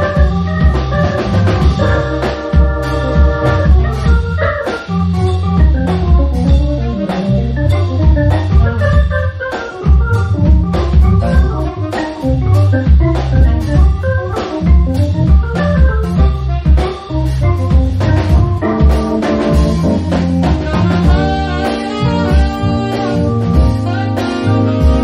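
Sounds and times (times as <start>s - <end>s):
drums keeping time: 0.0s - 25.0s
organ playing chords: 0.0s - 25.0s
walking bass line: 0.0s - 25.0s.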